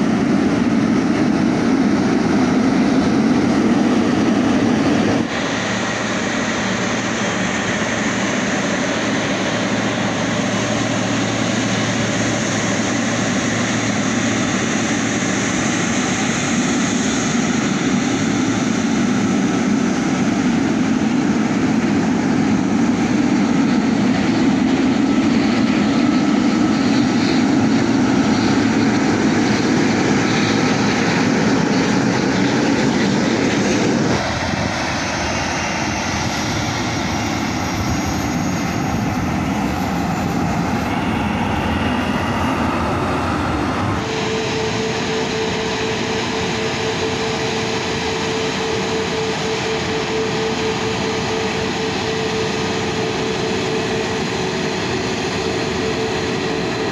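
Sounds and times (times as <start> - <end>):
jet airliner taxiing: 0.0 - 56.9
jet engine high whine: 0.0 - 56.9.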